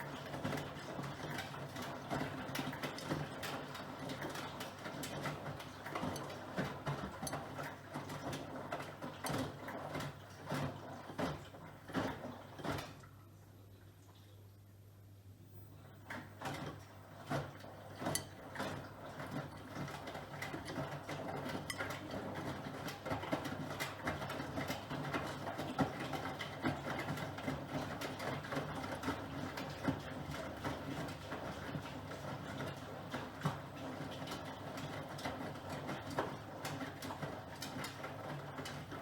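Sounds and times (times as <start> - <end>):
washing machine hum: 0.0 - 39.0.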